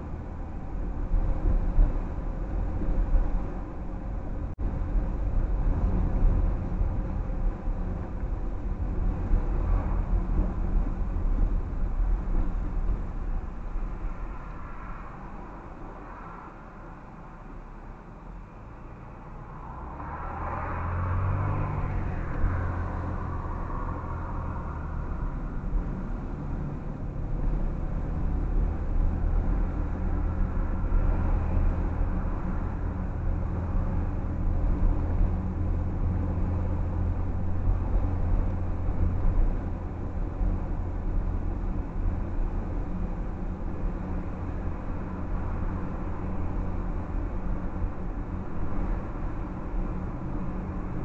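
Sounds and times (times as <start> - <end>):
car engine: 0.0 - 51.0
tyre and road noise: 0.0 - 51.0.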